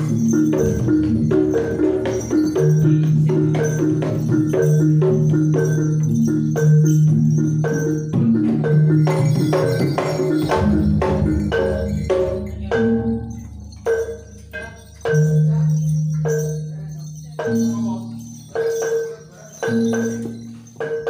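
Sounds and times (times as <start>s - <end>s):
drum strokes: 0.0s - 21.0s.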